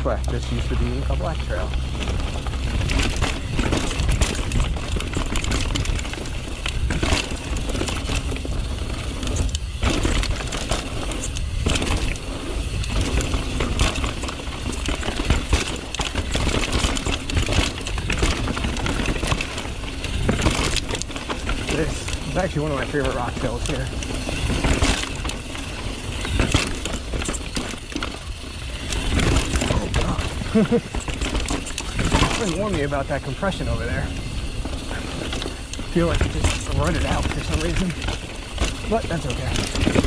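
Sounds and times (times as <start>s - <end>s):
bike rattling over rocks: 0.0s - 40.0s
wind rumbling on microphone: 0.0s - 40.0s.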